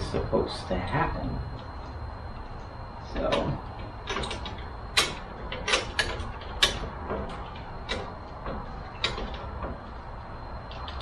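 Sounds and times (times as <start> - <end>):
parts clicking and clacking: 0.8 - 11.0.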